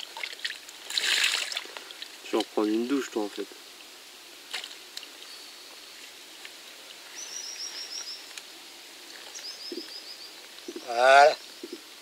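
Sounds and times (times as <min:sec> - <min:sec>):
quiet outdoor ambience: 0:00.0 - 0:12.0.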